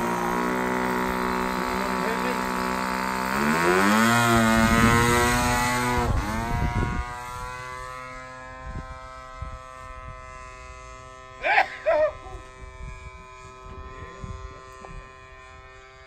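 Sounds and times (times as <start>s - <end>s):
model plane engine buzzing: 0.0s - 16.0s.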